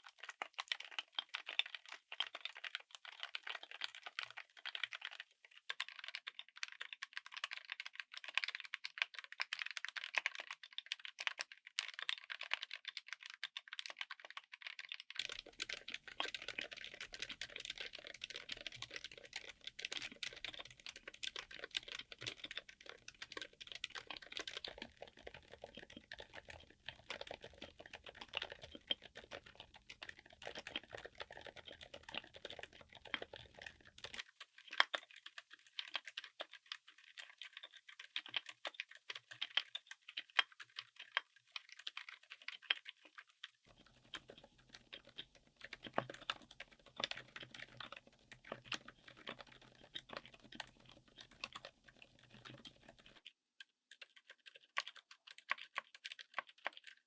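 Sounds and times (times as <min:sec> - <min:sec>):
soft keystrokes on keyboard: 0:00.0 - 0:57.0.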